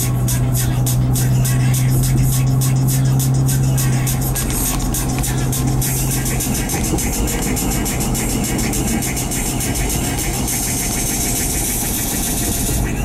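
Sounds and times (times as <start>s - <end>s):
car engine hum: 0.0s - 13.0s
road noise: 0.0s - 13.0s.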